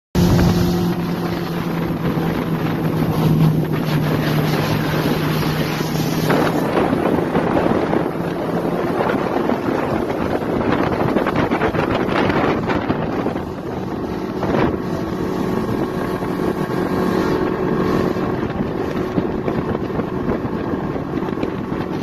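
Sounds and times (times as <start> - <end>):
motorboat engine droning: 0.2 - 22.0
rushing wake spray: 0.2 - 22.0
wind buffeting microphone: 0.2 - 22.0.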